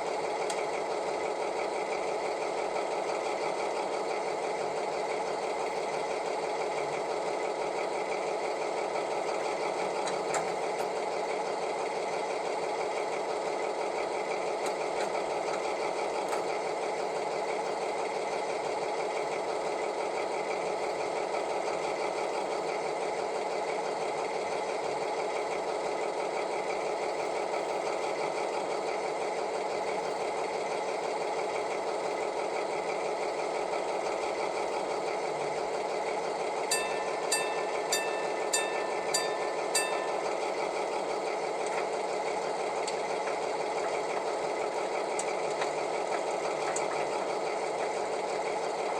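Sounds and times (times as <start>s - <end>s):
thin diesel engine sound from speaker: 0.0s - 48.9s.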